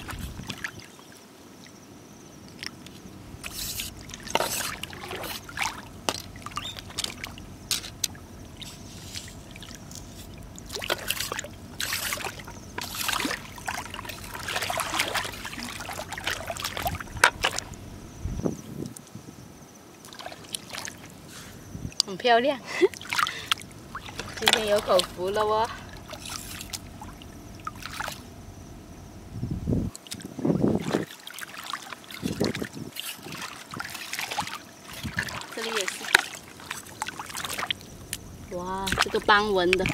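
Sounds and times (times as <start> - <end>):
shallow water splashing: 0.0 - 1.8, 2.4 - 18.2, 20.0 - 28.4, 29.9 - 39.9.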